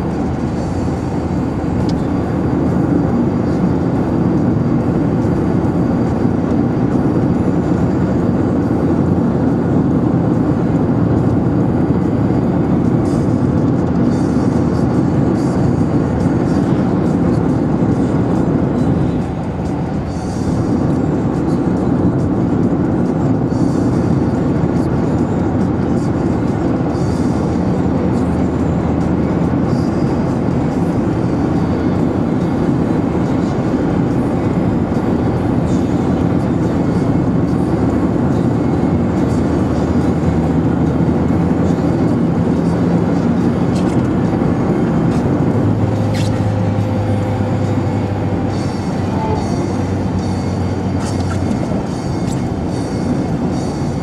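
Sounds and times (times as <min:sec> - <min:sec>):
car engine: 0:00.0 - 0:54.0
tyres on wet road: 0:00.0 - 0:54.0.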